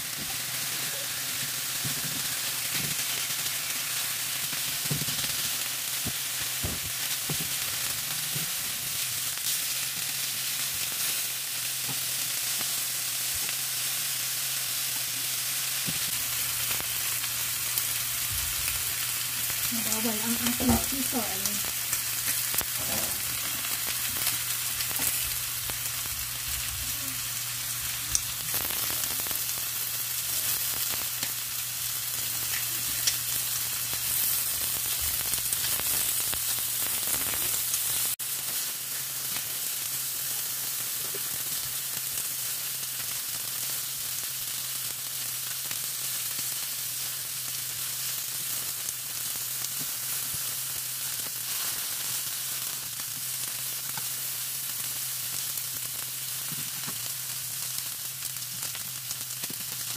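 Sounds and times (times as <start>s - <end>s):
pork sizzling in a frying pan: 0.0s - 59.9s.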